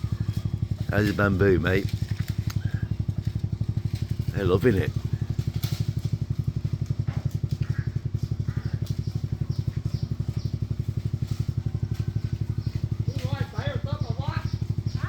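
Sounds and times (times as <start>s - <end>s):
motorbike engine idling: 0.0s - 15.0s.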